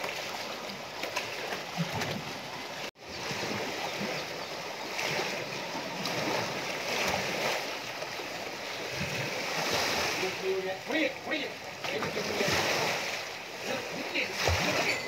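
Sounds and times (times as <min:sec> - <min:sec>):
elephant shifting in water: 0:00.0 - 0:15.0.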